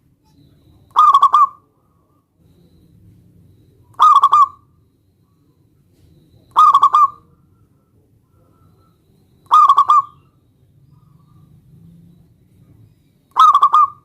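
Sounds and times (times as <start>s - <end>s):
dove cooing: 0.6s - 3.0s, 3.7s - 14.0s.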